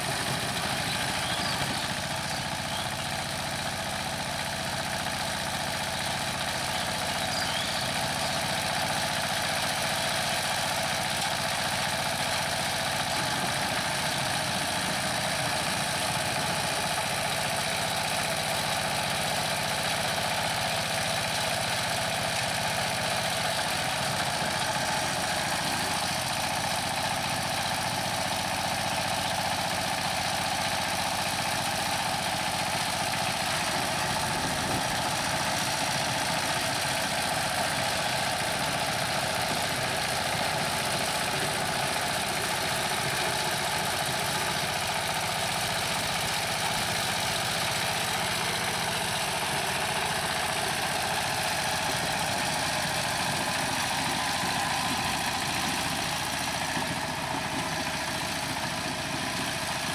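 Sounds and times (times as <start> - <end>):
tiller diesel engine running: 0.0 - 59.9.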